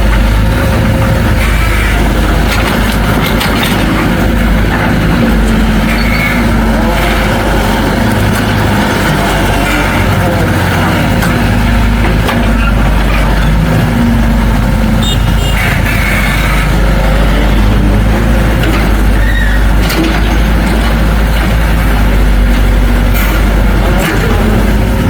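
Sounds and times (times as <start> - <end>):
diesel machinery rumbling: 0.0 - 25.0.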